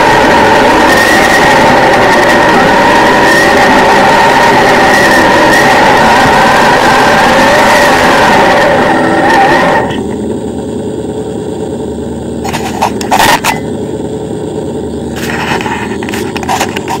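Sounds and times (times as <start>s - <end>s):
low steady rumble: 0.0s - 17.0s
rc vehicle drive whining: 0.0s - 17.0s.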